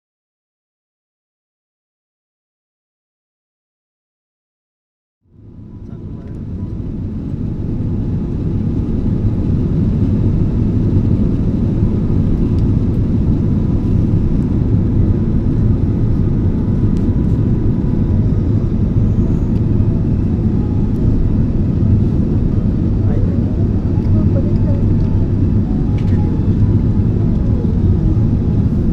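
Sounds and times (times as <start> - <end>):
jet airliner rumble: 5.3 - 28.9.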